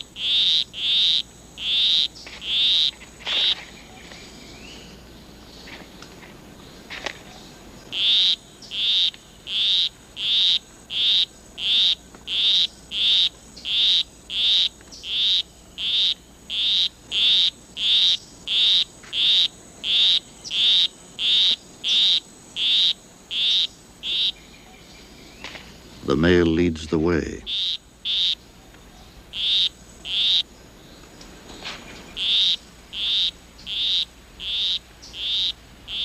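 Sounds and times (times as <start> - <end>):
frog high-pitched calls: 0.0 - 4.2, 7.2 - 24.9, 27.1 - 30.6, 32.1 - 36.0.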